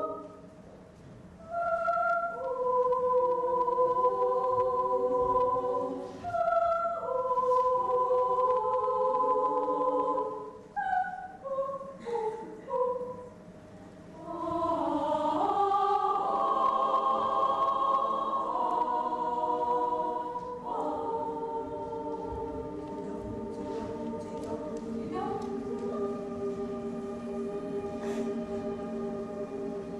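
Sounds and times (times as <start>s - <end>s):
children's choir singing: 0.0s - 0.5s, 1.4s - 13.4s, 14.1s - 29.9s.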